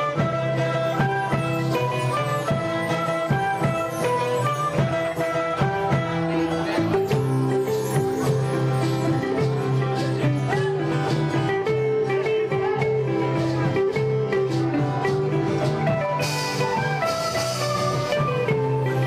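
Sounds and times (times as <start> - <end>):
guitar strummed and plucked: 0.0 - 19.0
live acoustic band music: 0.0 - 19.0.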